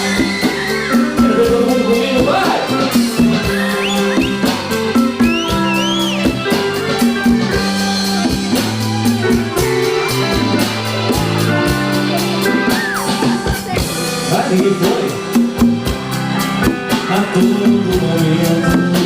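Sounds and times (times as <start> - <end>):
drum kit beat: 0.0 - 19.0
guitar chords: 0.0 - 19.0
keyboard chords: 0.0 - 19.0.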